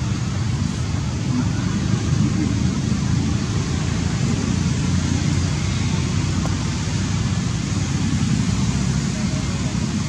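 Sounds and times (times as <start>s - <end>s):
even hiss: 0.0s - 10.0s
low fluttering rumble: 0.0s - 10.0s.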